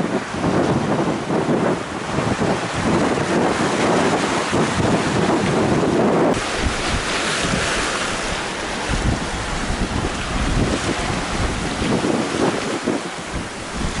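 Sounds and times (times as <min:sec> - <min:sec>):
waves breaking on rough sea: 0:00.0 - 0:14.0
wind buffeting microphone: 0:00.0 - 0:14.0.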